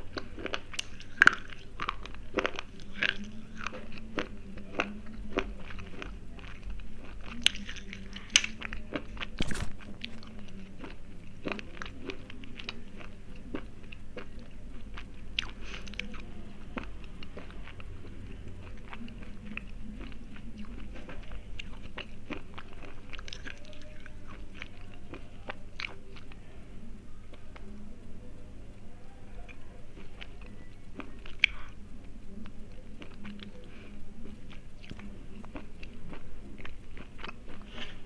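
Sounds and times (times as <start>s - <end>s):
crunchy chewing: 0.0s - 26.5s, 29.3s - 38.0s.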